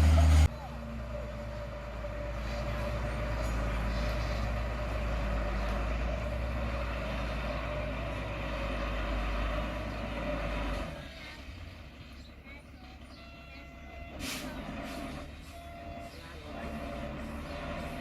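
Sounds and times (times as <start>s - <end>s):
construction machinery engine rumbling: 0.0s - 18.0s.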